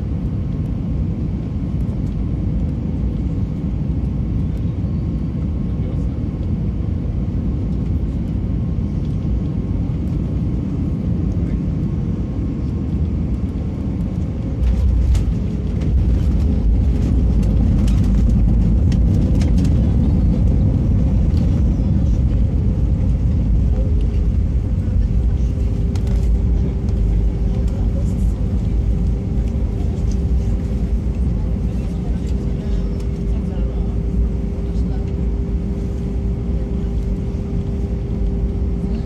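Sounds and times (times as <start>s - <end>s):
airliner cabin rumble: 0.0s - 39.0s.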